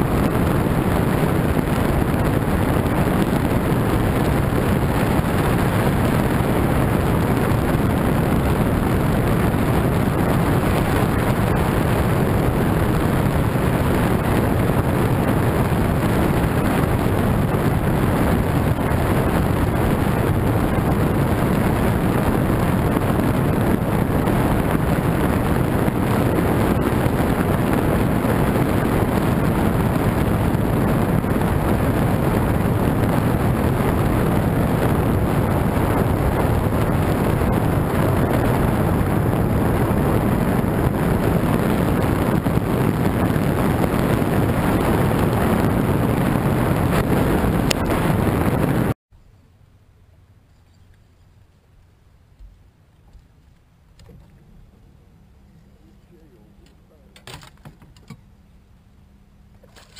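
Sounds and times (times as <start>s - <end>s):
boat motor drone: 0.0s - 49.0s
water rushing under hull: 0.0s - 49.0s
wind buffeting microphone: 0.0s - 49.0s.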